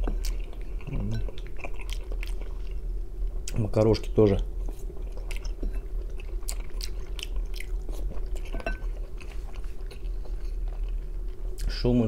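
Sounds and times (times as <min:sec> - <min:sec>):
chewing pasta: 0:00.0 - 0:02.9, 0:03.5 - 0:11.8
steady low hum: 0:00.0 - 0:12.0.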